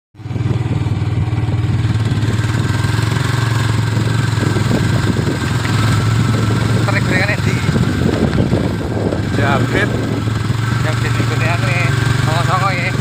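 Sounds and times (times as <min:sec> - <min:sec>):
motorcycle engine running: 0:00.2 - 0:13.0.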